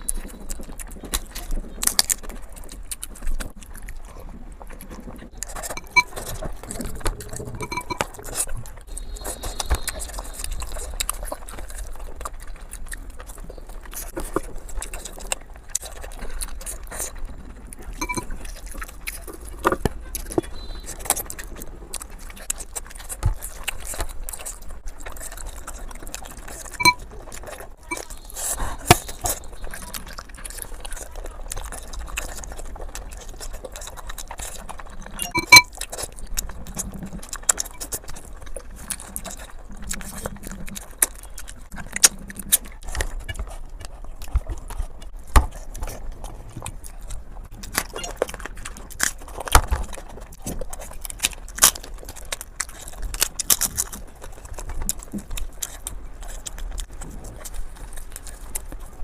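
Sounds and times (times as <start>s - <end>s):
chewing and wet mouth noises: 0.0s - 59.0s.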